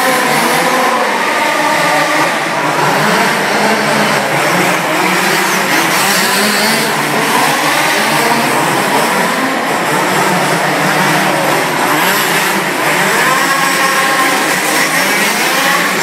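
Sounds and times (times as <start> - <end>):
radio-controlled car motors racing: 0.0 - 16.0.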